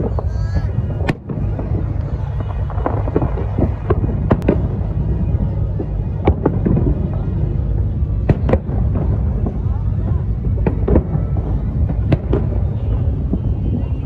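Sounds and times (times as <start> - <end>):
firework sharp cracks: 0.0 - 14.0
rumble of firework booms: 0.0 - 14.0.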